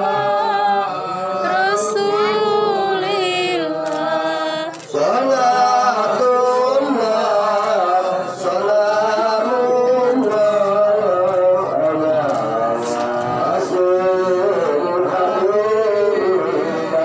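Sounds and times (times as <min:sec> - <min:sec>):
person singing chant-like melody: 0:00.0 - 0:17.0.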